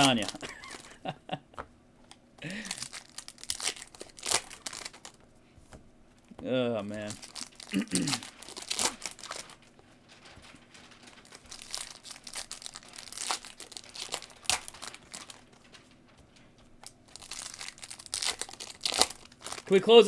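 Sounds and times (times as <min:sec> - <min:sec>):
foil wrappers crinkling and tearing: 0:00.0 - 0:01.1, 0:02.4 - 0:05.2, 0:06.2 - 0:20.0.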